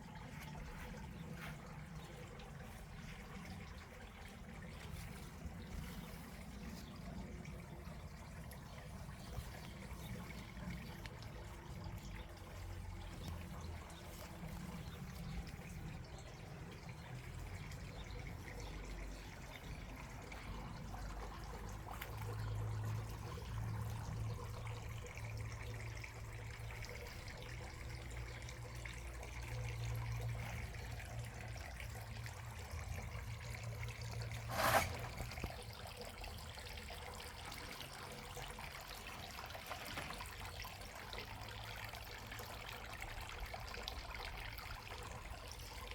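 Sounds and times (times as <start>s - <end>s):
water trickling: 0.0s - 45.9s.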